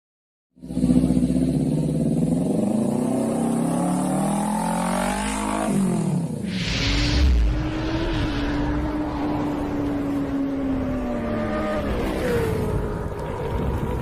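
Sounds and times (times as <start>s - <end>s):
motorcycle engine revving: 0.6s - 14.0s.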